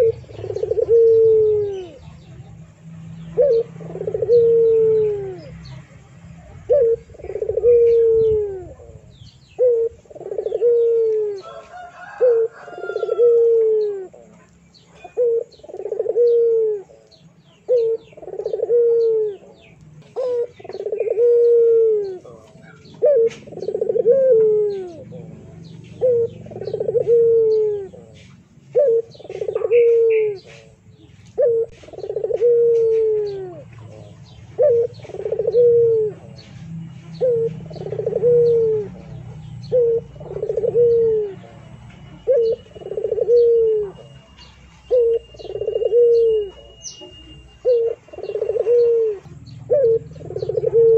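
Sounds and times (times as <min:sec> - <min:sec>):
dove cooing: 0:00.0 - 0:50.9
small birds chirping faintly: 0:00.0 - 0:50.9.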